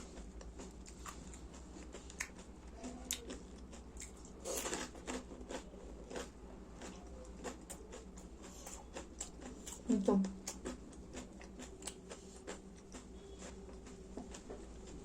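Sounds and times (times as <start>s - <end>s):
chewing and crunching crisp food: 0.0s - 15.0s.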